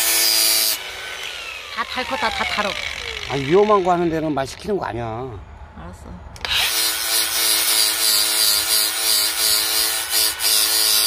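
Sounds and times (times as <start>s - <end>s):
angle grinder grinding metal: 0.0s - 4.8s, 6.4s - 11.0s.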